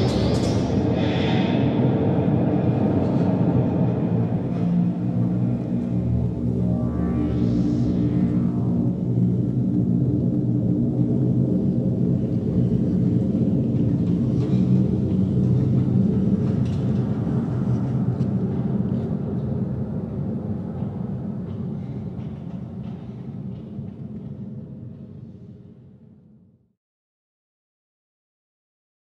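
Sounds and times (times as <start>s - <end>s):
low rumbling synthesizer drone: 0.0s - 26.3s.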